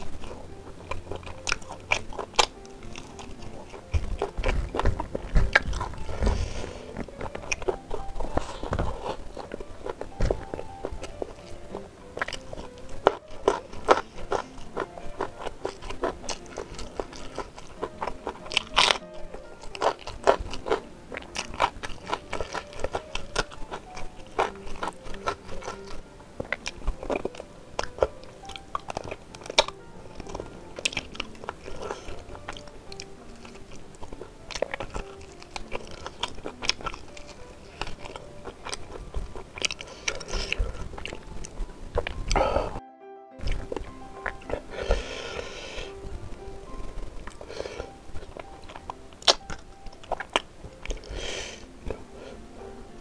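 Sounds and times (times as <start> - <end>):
person chewing meat: 0.0 - 42.8, 43.4 - 53.0.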